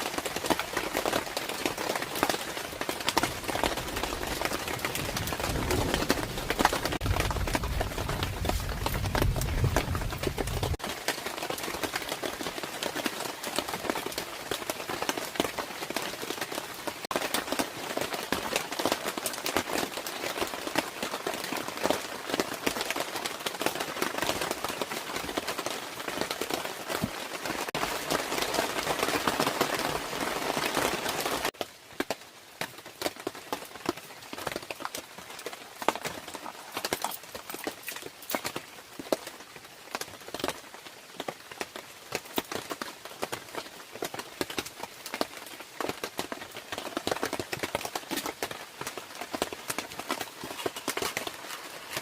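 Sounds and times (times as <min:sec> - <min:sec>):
heavy rain patter: 0:00.0 - 0:52.0.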